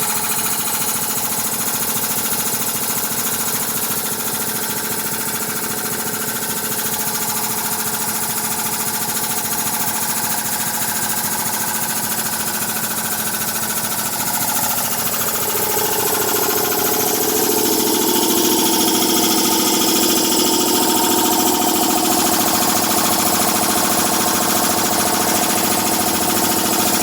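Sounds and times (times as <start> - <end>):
air compressor pumping: 0.0 - 27.0.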